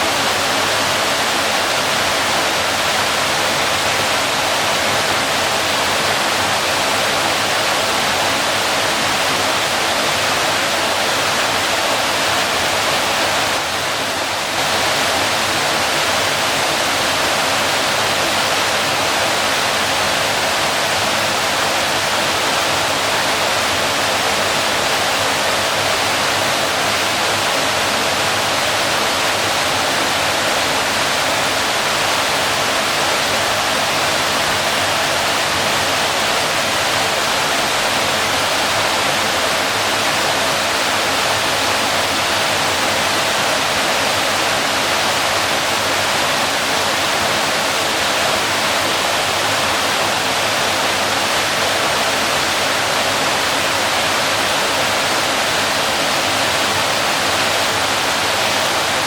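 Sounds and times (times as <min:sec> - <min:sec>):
waterfall splashing: 0:00.0 - 0:59.0.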